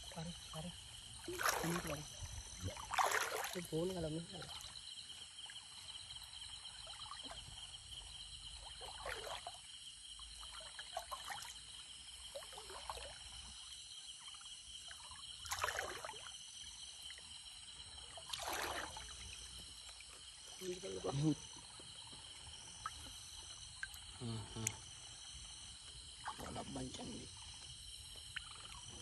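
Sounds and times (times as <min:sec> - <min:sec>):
night insects trilling: 0:00.0 - 0:29.0
splashes of shallow water: 0:00.0 - 0:29.0.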